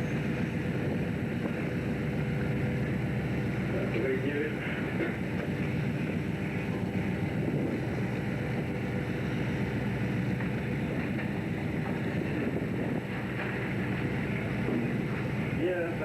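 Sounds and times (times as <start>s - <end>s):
wind noise: 0.0s - 3.8s, 4.7s - 15.6s
engine running steadily: 0.0s - 16.0s.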